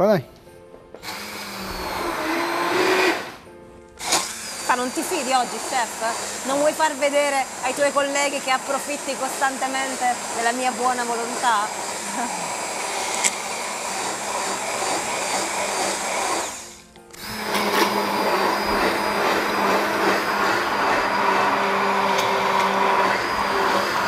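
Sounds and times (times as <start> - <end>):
immersion blender running: 1.0 - 3.4, 4.0 - 24.0.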